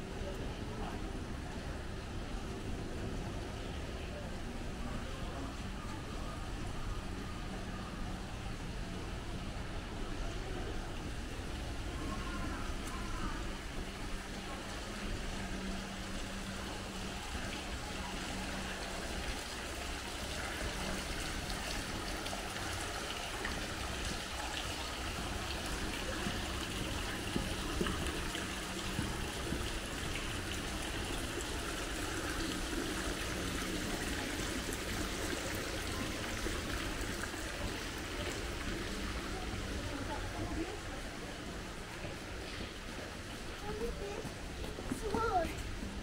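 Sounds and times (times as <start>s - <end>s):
city street ambience: 0.0s - 46.0s.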